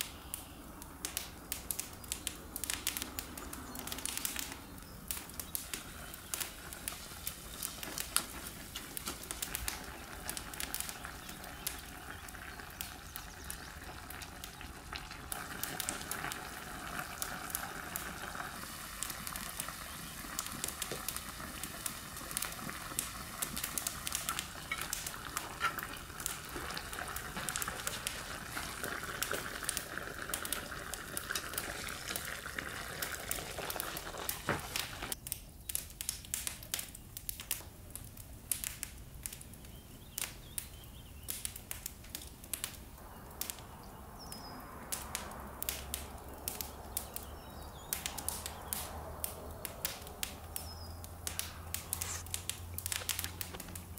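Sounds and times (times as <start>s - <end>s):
stew simmering hiss: 0.0s - 35.2s, 42.5s - 53.9s
wood embers crackling and popping: 0.0s - 53.9s.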